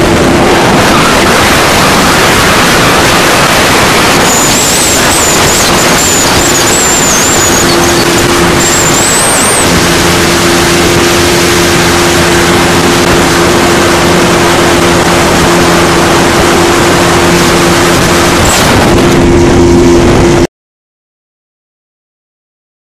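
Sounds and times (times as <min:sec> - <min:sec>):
boat engine humming: 0:00.0 - 0:20.4
rush of wind and water: 0:00.0 - 0:20.5.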